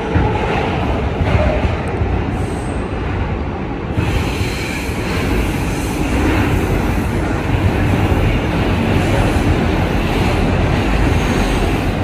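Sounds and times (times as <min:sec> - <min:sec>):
subway train wheels rumbling on rail: 0:00.0 - 0:12.0.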